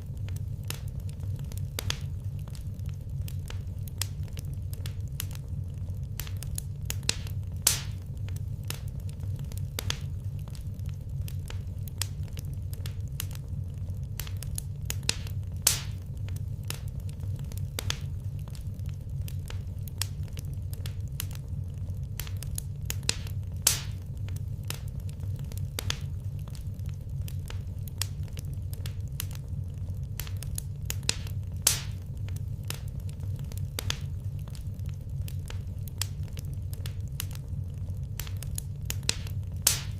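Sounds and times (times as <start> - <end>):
low steady rumble: 0.0 - 39.9
wood fire crackling: 0.0 - 39.9.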